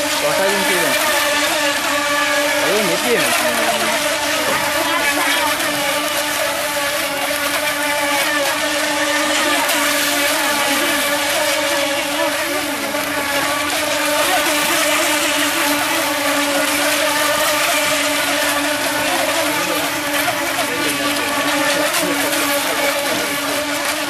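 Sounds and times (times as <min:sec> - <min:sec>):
rc boat motors whining: 0:00.0 - 0:24.0.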